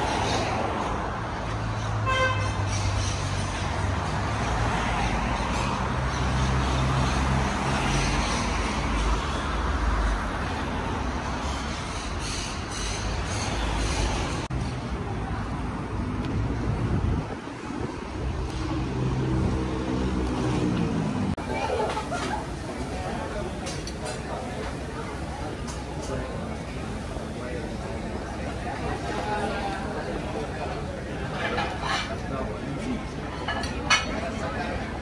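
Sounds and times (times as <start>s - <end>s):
car engines passing: 0.0s - 35.0s.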